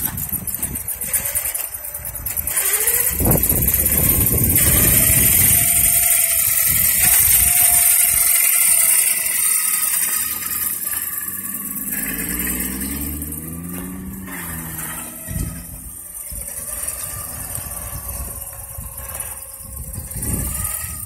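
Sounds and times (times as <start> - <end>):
electric motor whining: 0.0 - 21.0
low wavering hum: 0.0 - 21.0
tyres and wheels rolling on asphalt: 0.0 - 21.0.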